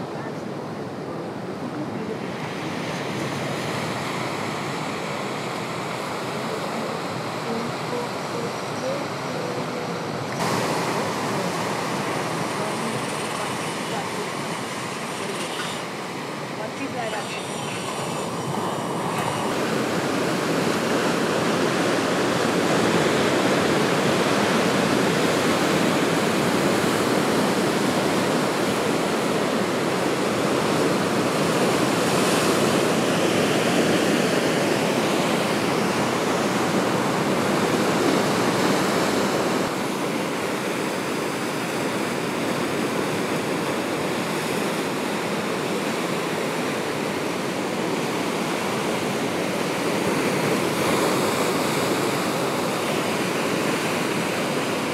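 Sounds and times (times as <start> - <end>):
sea waves washing onto beach: 0.0 - 54.9.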